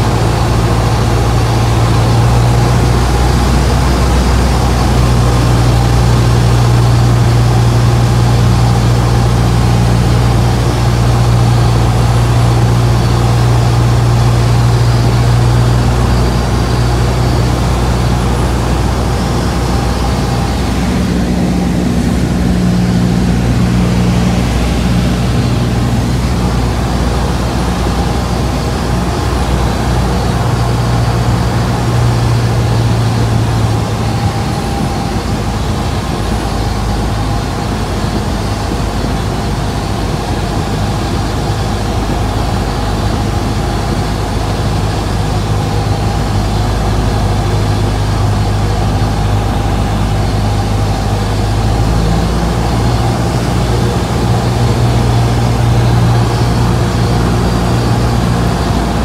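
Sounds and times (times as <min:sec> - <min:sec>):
airflow noise: 0:00.0 - 0:59.0
propeller airplane engine drone: 0:00.0 - 0:59.0.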